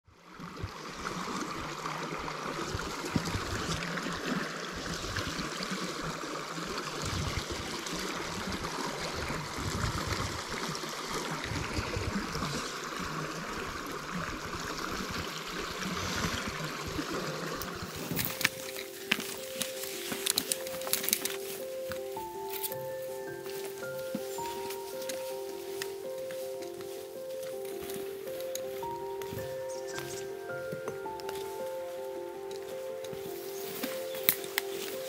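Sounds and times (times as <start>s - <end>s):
mountain stream flowing: 0.1s - 35.0s.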